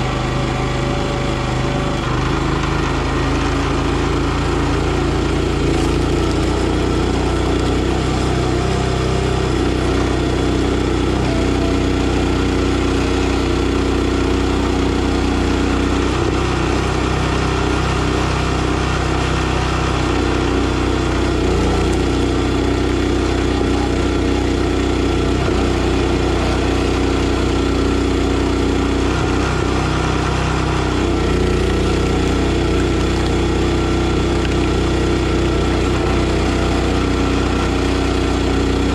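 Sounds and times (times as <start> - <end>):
log splitter engine running: 0.0 - 38.9.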